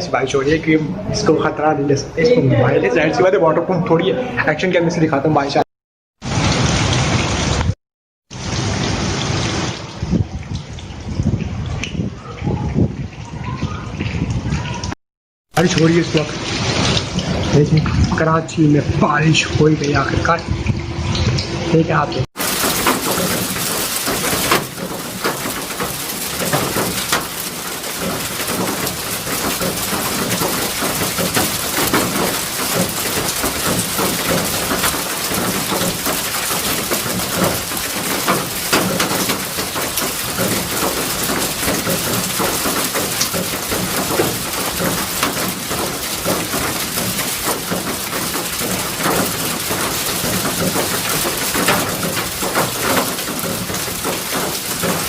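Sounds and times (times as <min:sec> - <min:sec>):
heavy rain falling: 0:06.2 - 0:12.2, 0:14.2 - 0:20.0, 0:22.2 - 0:55.0.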